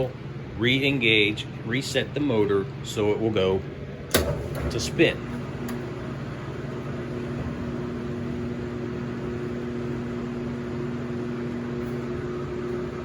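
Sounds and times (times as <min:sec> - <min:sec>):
washing machine electric hum: 0:00.0 - 0:13.0.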